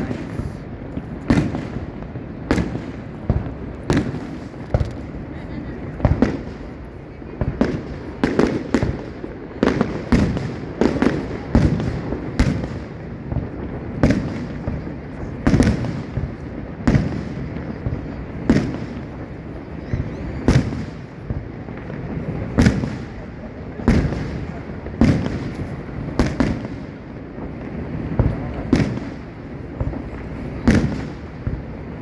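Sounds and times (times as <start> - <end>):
fireworks booming: 0.0 - 32.0.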